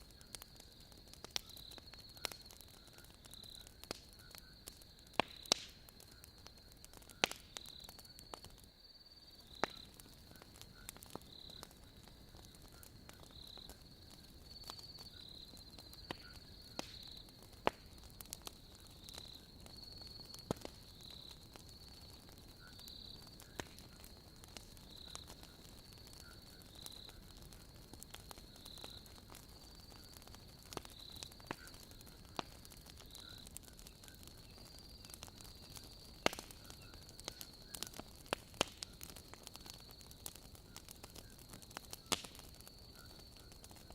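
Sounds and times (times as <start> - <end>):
crickets chirping: 0.0 - 43.9
wood fire crackling and popping: 0.0 - 43.9.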